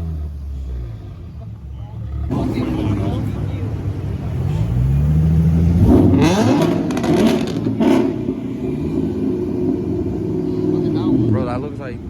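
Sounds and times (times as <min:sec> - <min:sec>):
car engine revving: 0:00.0 - 0:12.0
exhaust crackles: 0:00.4 - 0:12.0.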